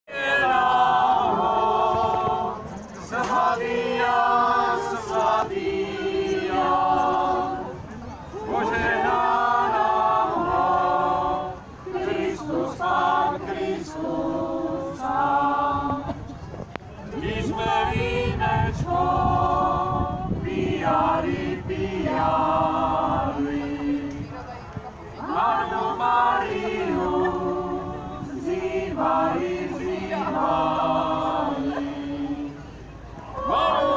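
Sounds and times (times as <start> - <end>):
group singing unaccompanied: 0.1 - 16.4, 17.0 - 24.5, 25.1 - 33.9.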